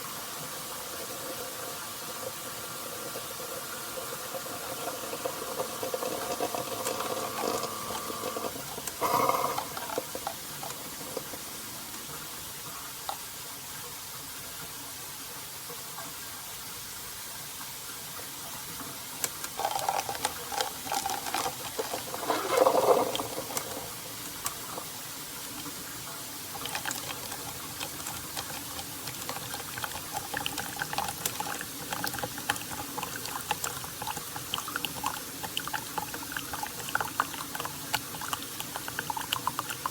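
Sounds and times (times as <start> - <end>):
coffee maker hissing and pouring: 0.0 - 39.9.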